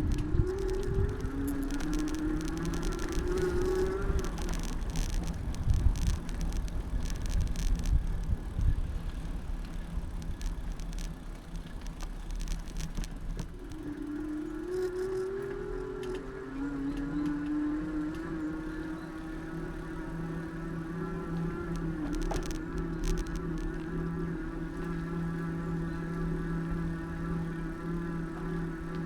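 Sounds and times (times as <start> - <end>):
rattles and clicks: 0.0 - 16.3, 16.9 - 25.5
bicycle road rumble: 0.0 - 29.0
rising whine: 0.0 - 29.0.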